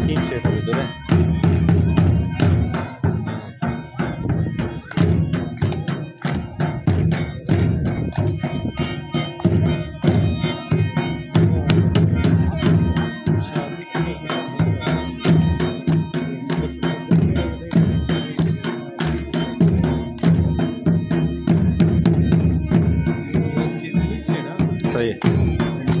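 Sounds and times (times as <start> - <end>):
held melodic notes: 0.0 - 26.0.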